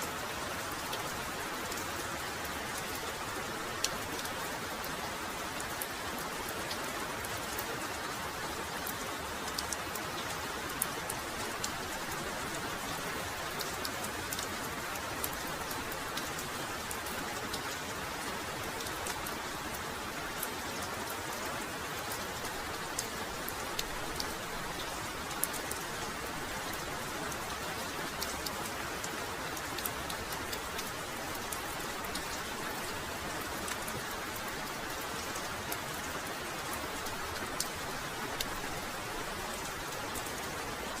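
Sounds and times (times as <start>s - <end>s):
heavy rain pouring: 0.0s - 41.0s
raindrops ticking close by: 0.0s - 41.0s.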